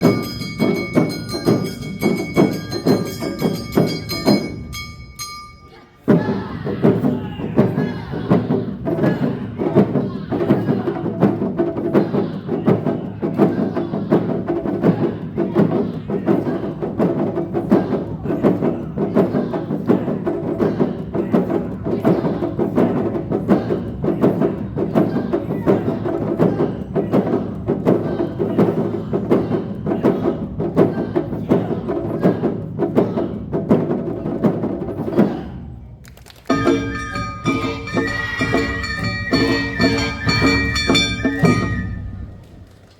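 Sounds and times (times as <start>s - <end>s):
festival music with percussion: 0.0s - 42.8s.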